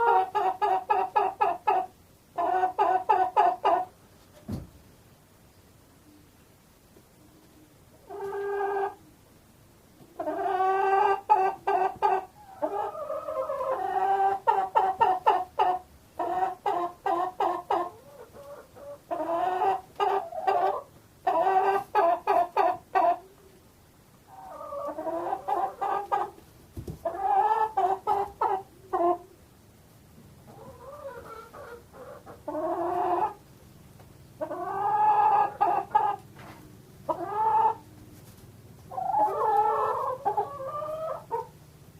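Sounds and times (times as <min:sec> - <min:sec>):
hens clucking: 0:00.0 - 0:04.0, 0:07.4 - 0:09.1, 0:10.0 - 0:23.6, 0:24.2 - 0:29.4, 0:30.4 - 0:33.5, 0:34.4 - 0:41.6.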